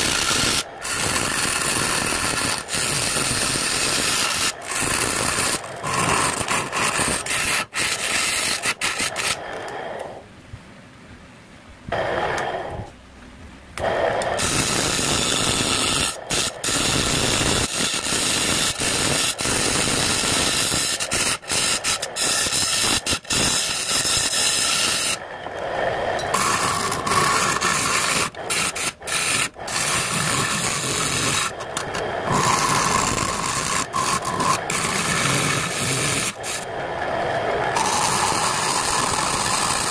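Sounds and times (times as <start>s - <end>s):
lathe tool rasping wood: 0.0s - 9.8s, 13.8s - 39.9s.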